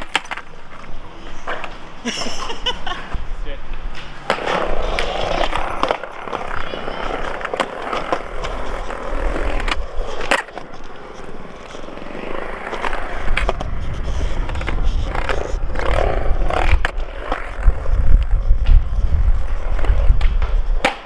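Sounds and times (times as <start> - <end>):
skateboard clacks: 0.0 - 2.6, 3.7 - 21.0
skateboard wheels rolling on concrete: 0.0 - 21.0.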